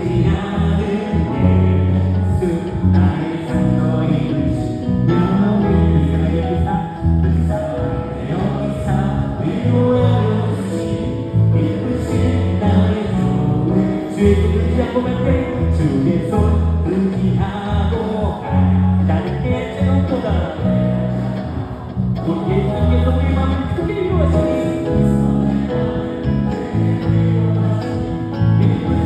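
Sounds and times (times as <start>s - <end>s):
worship band playing a hymn: 0.0s - 29.0s.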